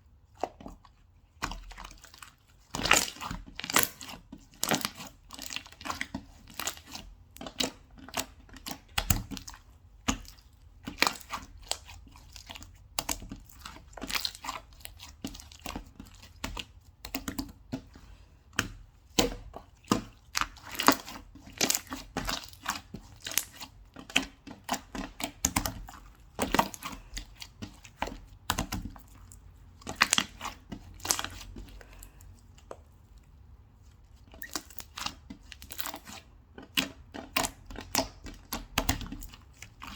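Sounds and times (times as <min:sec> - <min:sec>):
slime squishing and popping: 0:01.4 - 0:17.9, 0:18.5 - 0:32.8, 0:34.3 - 0:39.9.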